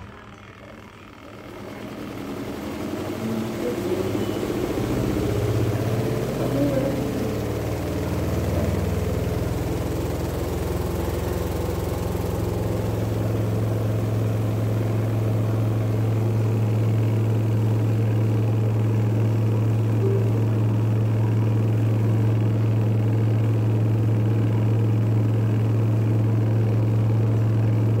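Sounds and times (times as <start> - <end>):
washing machine motor humming: 0.0 - 28.0.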